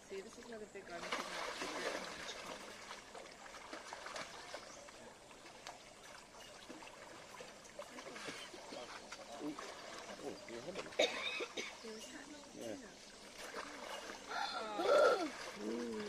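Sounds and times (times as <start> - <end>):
water trickling and lapping: 0.0 - 16.0.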